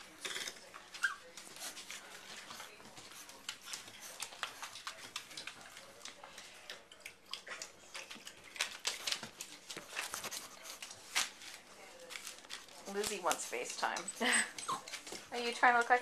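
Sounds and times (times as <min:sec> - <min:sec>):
puppies scrabbling: 0:00.0 - 0:16.0.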